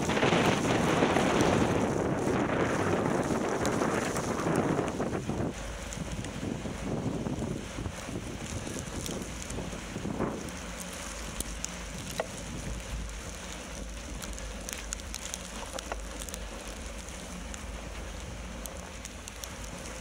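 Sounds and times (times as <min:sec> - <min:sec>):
small ticks: 0:00.0 - 0:06.4, 0:07.2 - 0:20.0
bicycle tyres crackling over snow: 0:00.0 - 0:20.0
wind rumbling on microphone: 0:00.0 - 0:20.0.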